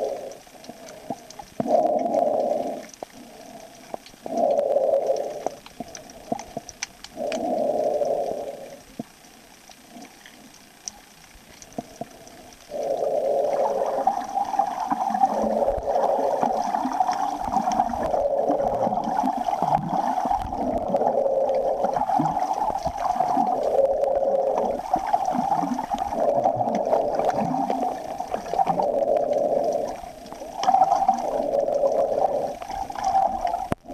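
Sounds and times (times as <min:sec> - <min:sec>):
muffled underwater gurgling: 0:00.0 - 0:33.9.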